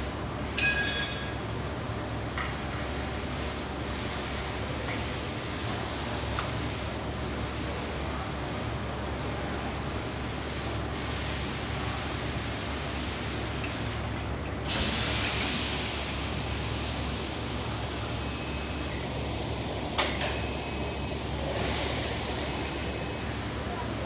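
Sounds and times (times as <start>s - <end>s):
factory machinery hiss and hum: 0.0s - 24.0s.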